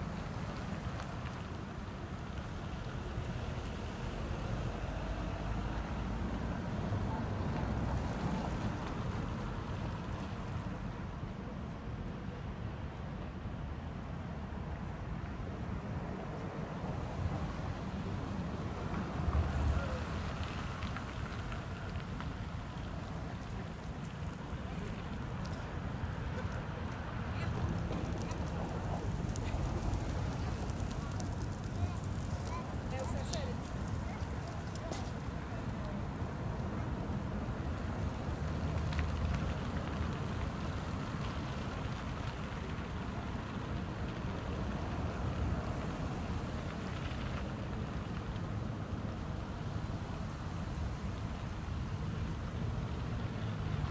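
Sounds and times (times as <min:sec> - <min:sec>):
cars driving: 0:00.0 - 0:10.7, 0:15.8 - 0:53.9
road traffic passing: 0:00.0 - 0:53.9.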